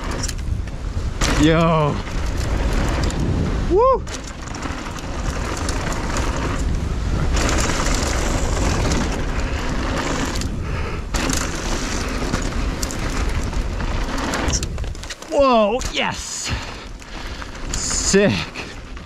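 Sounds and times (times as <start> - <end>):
tyres rolling over gravel: 0.0 - 19.0
wind on microphone: 0.0 - 19.0.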